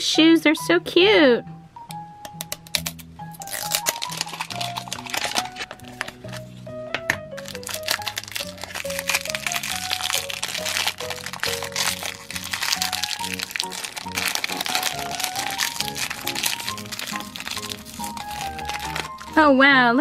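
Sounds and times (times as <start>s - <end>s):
light background music: 0.0s - 20.0s
plastic wrapping crinkling: 2.6s - 6.6s, 7.4s - 19.4s.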